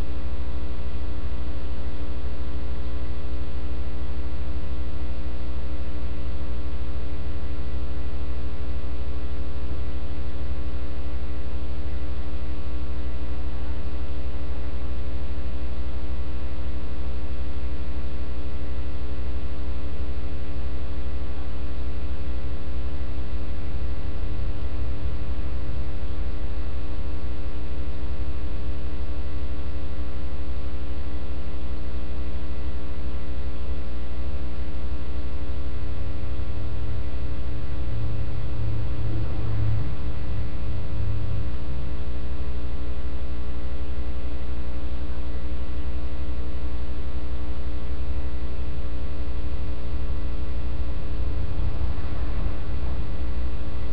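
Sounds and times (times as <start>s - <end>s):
electrical mains hum: 0.0s - 53.9s.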